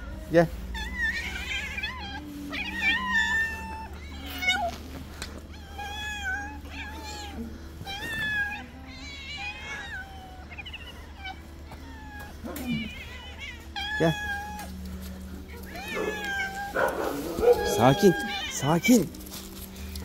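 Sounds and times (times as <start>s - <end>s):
cats meowing: 0.0s - 20.0s.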